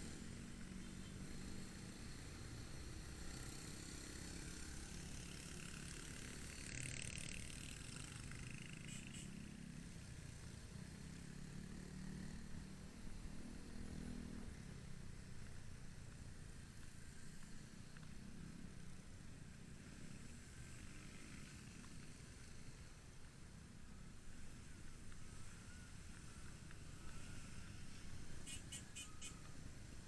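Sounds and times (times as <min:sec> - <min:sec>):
motorcycle engine hum: 0:00.0 - 0:30.0
road and traffic noise: 0:00.0 - 0:30.0.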